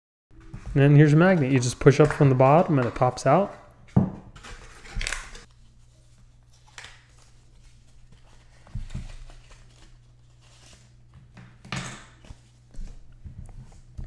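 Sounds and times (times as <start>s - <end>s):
plastic and card rustling: 0.4s - 14.0s.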